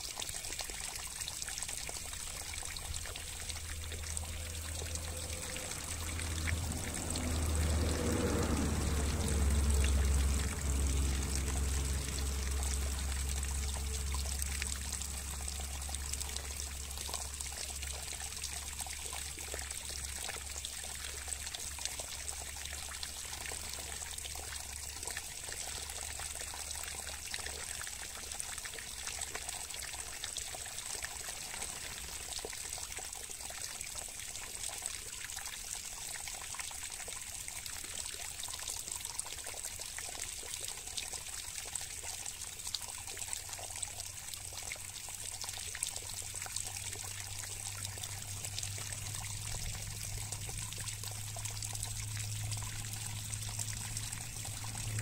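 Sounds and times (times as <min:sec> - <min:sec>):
water pouring and trickling: 0:00.0 - 0:55.0.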